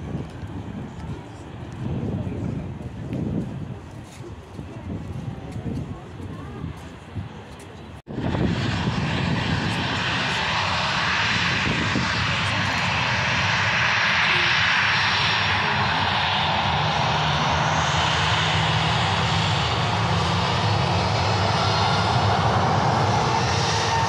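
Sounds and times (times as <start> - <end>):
jet engines taxiing: 0.0 - 24.0.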